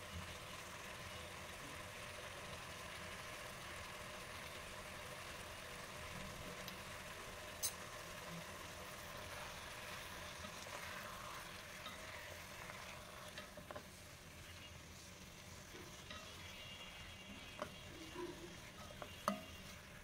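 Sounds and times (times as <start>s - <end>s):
beef stirred in a pot: 0.0s - 20.0s
faint steady hiss: 0.0s - 20.0s.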